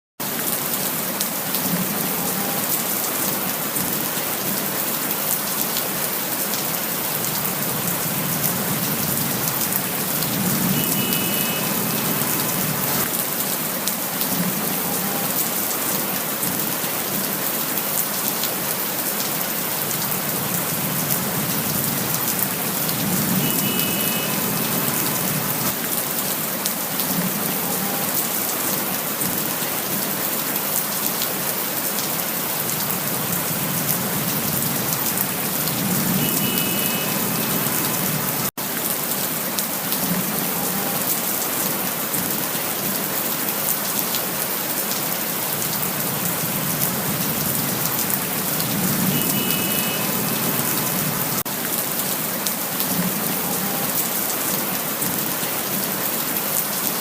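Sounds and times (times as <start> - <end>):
steady rain hiss: 0.2 - 57.0.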